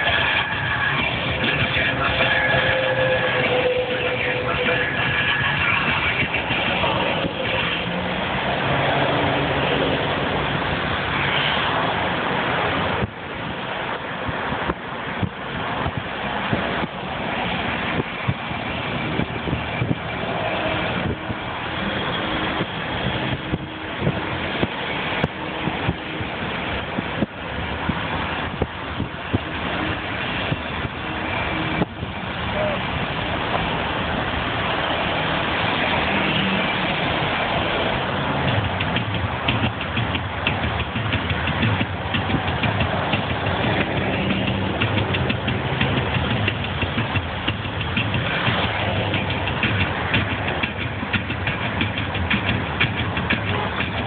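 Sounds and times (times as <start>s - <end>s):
passing cars: 0.0s - 54.0s
vehicle road noise: 0.0s - 54.0s.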